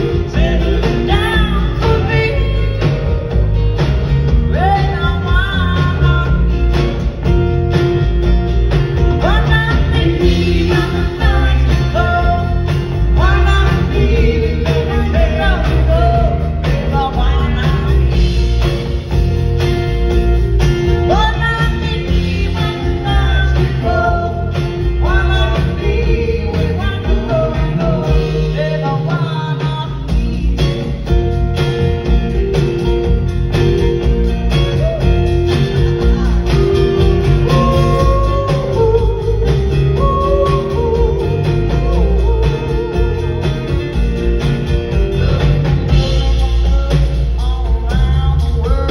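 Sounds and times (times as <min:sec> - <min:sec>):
person singing lead vocals: 0:00.0 - 0:07.0, 0:09.1 - 0:19.0, 0:21.0 - 0:31.4, 0:33.6 - 0:48.9
live band playing: 0:00.0 - 0:48.9.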